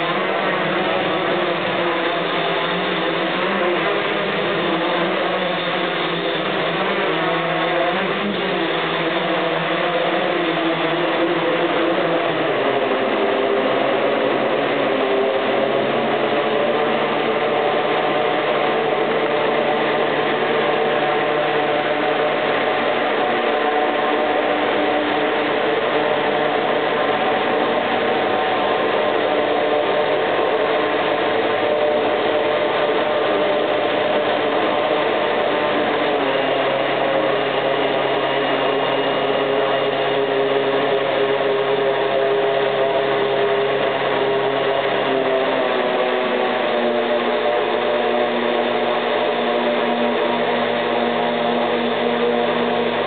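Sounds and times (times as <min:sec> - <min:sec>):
drone motors whirring: 0:00.0 - 0:53.0.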